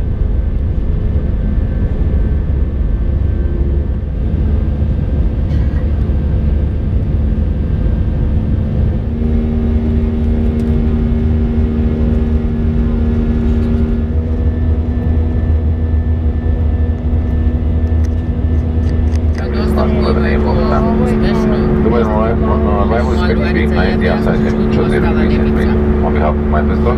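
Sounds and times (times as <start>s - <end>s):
airplane cabin rumble: 0.0s - 26.9s
engine hum tones: 0.0s - 26.9s.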